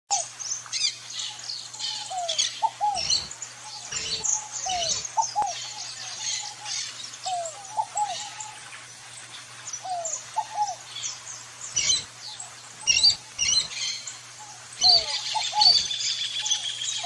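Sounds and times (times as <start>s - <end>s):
birds chirping and twittering: 0.1s - 17.0s.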